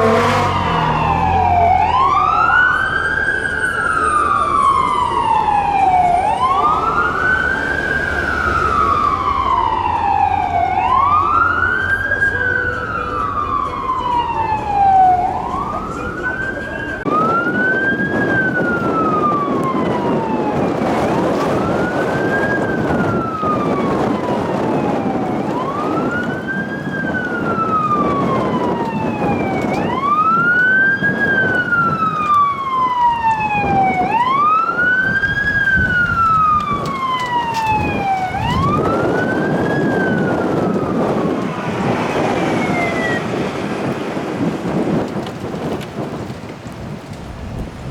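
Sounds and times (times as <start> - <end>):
fire truck siren wailing: 0.0 - 47.9
road and vehicle noise: 0.0 - 47.9.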